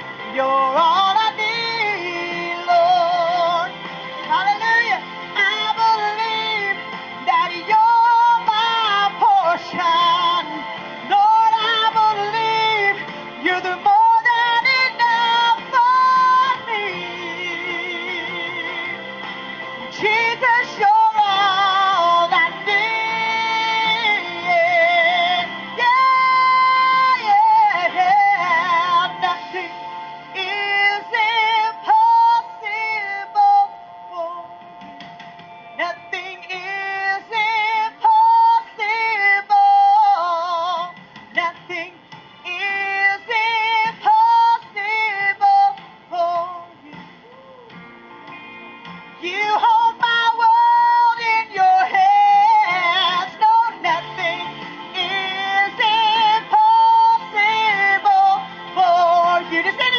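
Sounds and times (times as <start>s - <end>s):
woman singing: 0.0s - 19.1s, 19.9s - 34.5s, 35.8s - 47.7s, 49.2s - 59.9s
instrumental backing music: 0.0s - 59.9s.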